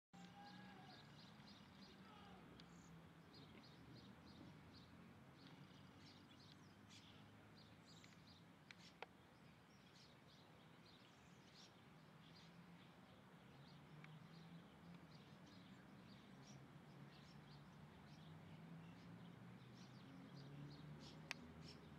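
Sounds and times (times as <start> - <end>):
small birds chirping: 0.2 - 21.9.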